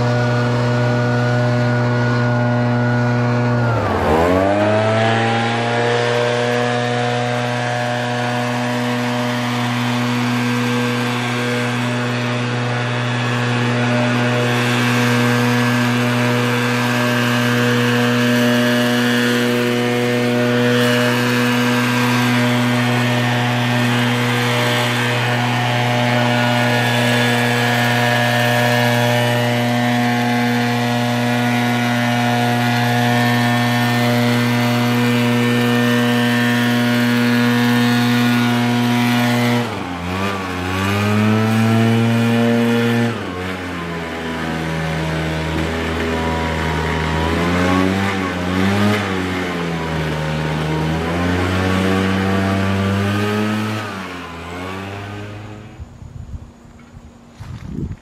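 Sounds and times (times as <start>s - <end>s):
leaf blower engine running: 0.0s - 58.0s.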